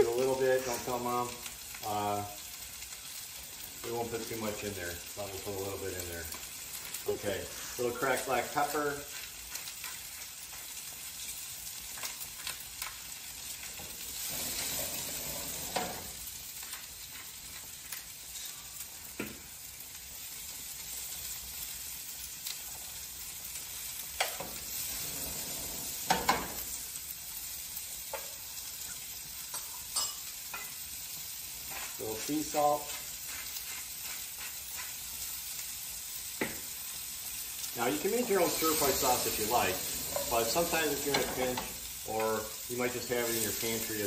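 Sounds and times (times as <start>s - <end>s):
mushrooms sizzling in a skillet: 0.0s - 44.0s.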